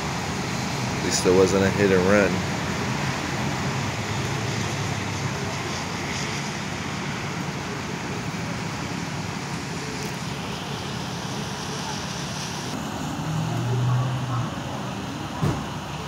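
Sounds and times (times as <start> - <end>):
vehicle engines idling: 0.0 - 16.0.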